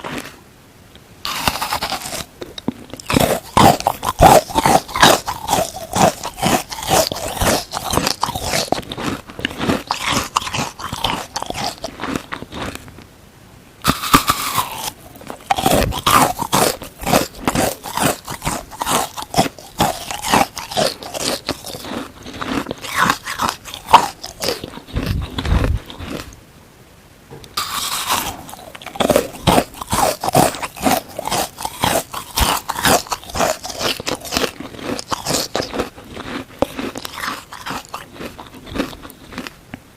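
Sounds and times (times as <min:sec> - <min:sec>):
crunchy chewing: 0:00.0 - 0:00.4, 0:01.2 - 0:13.1, 0:13.8 - 0:26.4, 0:27.5 - 0:39.6.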